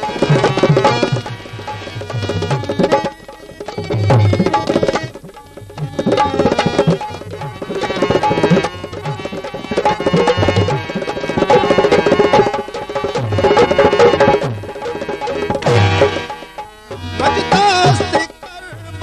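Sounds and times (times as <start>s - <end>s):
tabla drumming: 0.0s - 19.0s.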